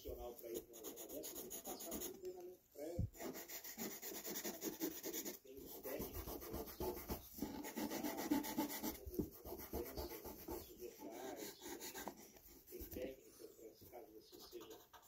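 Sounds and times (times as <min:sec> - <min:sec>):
pencil scratching on paper: 0:00.0 - 0:02.4, 0:03.0 - 0:13.4, 0:14.0 - 0:15.0.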